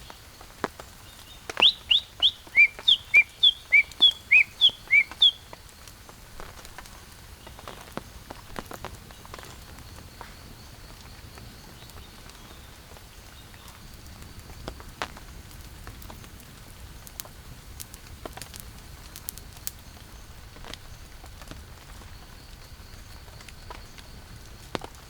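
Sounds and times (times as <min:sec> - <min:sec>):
raindrops ticking: 0:00.0 - 0:25.0
steady rain: 0:00.0 - 0:25.0.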